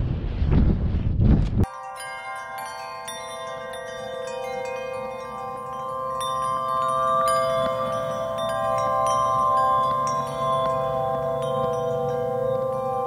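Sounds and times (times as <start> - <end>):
chime-like bell tones: 1.7 - 13.0
steady held chord: 1.7 - 13.0.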